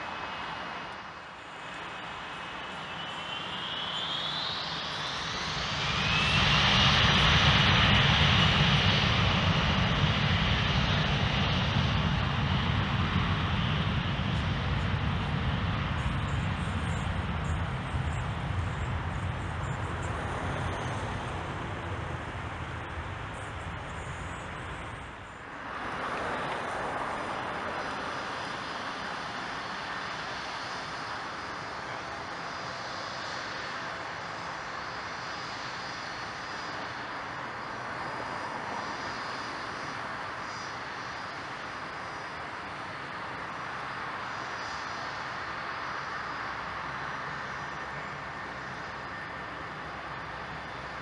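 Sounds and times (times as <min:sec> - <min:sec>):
jet engines deep rumble: 0:00.0 - 0:51.0
jet taxiing high-pitched noise: 0:00.0 - 0:51.0.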